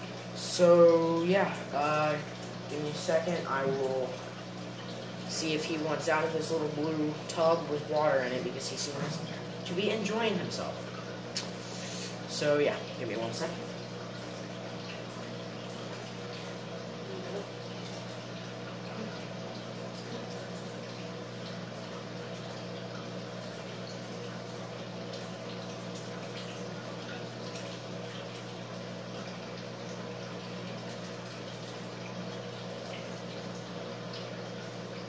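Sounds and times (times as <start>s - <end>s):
electrical hum with hiss: 0.0s - 35.0s.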